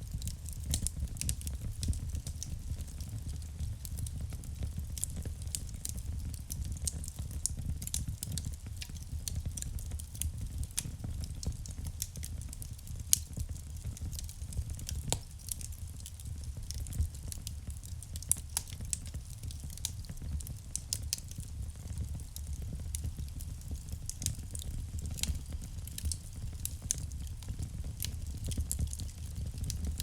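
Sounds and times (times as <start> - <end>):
burning logs crackling and popping: 0.0 - 30.0
low rumble of flames: 0.0 - 30.0.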